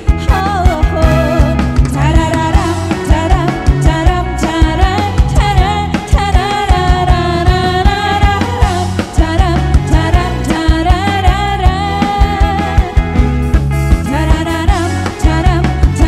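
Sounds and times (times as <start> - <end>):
woman singing into microphone: 0.0 - 13.2, 14.0 - 16.0
live band playing dance song: 0.0 - 16.0.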